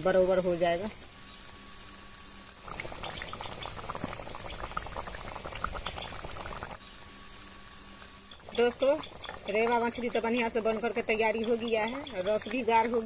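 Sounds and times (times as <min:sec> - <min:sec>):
gravy boiling with bubbling pops: 0:00.1 - 0:13.0.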